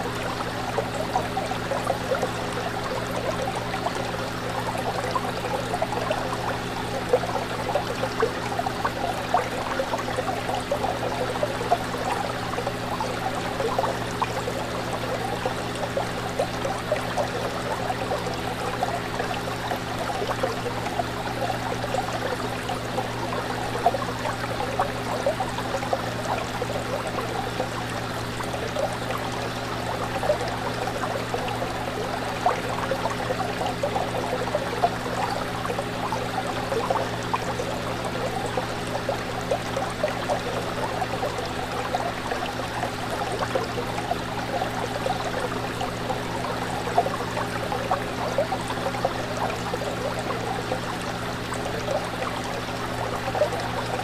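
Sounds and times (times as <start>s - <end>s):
low pump hum: 0.0s - 54.0s
small water splashes: 0.0s - 54.0s
water bubbling and trickling: 0.0s - 54.0s.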